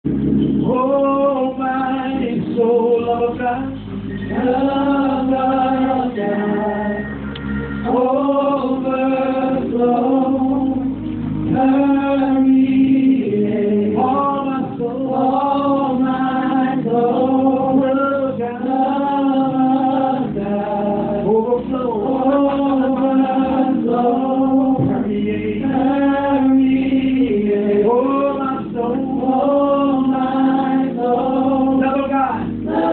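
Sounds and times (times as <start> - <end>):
group of singers: 0.3 - 32.9
man singing into microphone: 0.6 - 7.2, 7.8 - 32.6.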